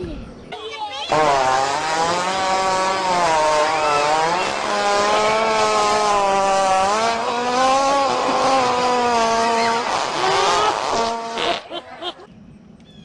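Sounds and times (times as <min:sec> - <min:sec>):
loud buzzing fart: 0:01.1 - 0:11.8.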